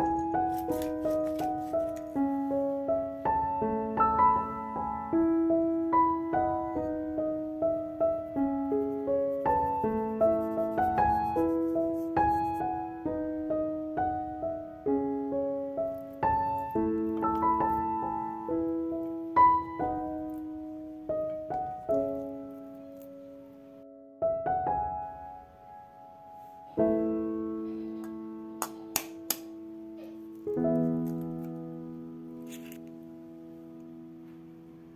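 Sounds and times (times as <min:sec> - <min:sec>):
slow solo piano music: 0:00.0 - 0:34.9.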